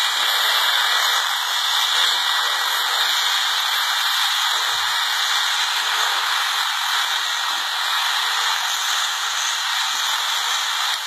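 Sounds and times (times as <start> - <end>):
helicopter turbine and rotor: 0.0 - 11.0.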